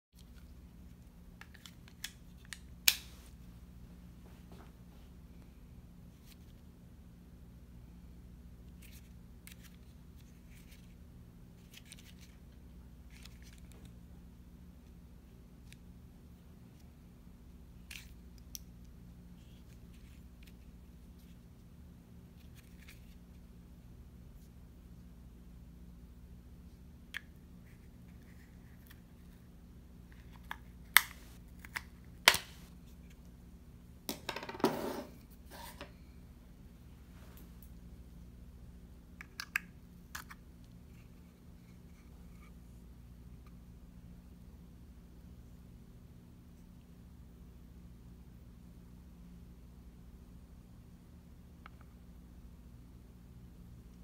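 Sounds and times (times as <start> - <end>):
steady low hum: 0.2 - 54.0.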